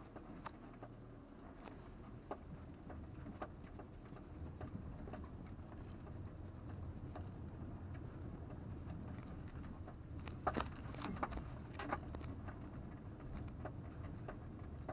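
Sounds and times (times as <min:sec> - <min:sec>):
car rumble on dirt track: 0:00.0 - 0:14.9.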